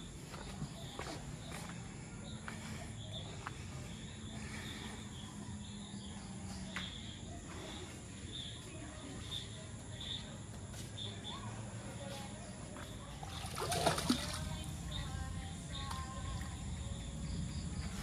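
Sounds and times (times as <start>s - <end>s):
crickets buzzing and chirping: 0.0s - 18.0s.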